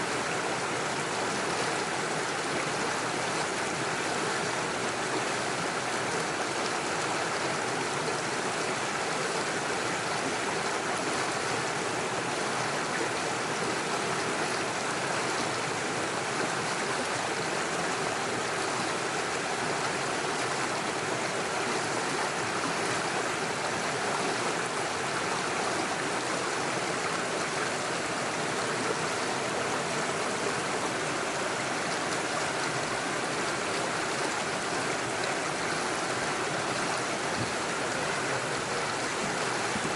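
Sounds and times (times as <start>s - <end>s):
stream splashing over stones: 0.1s - 39.9s.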